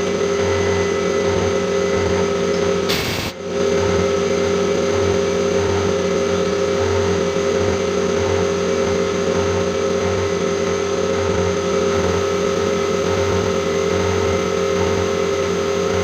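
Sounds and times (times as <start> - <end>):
milling machine whine and hum: 0.0 - 16.0.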